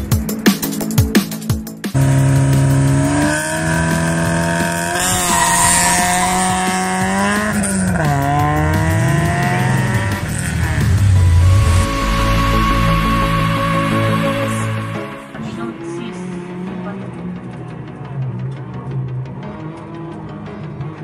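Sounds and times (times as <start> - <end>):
rally car engine accelerating: 1.9 - 21.0.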